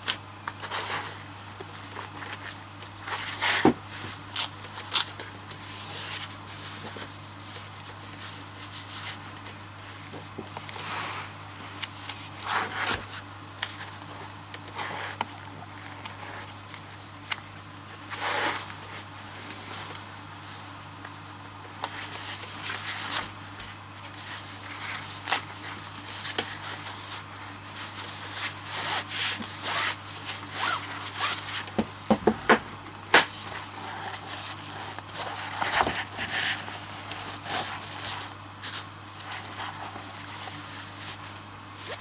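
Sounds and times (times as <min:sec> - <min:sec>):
hands rubbing and rustling packaging: 0:00.0 - 0:31.8, 0:32.5 - 0:42.0.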